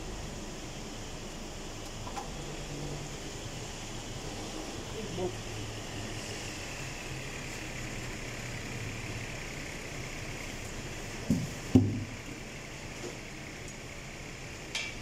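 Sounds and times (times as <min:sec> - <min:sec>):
workshop background hum: 0:00.0 - 0:15.0.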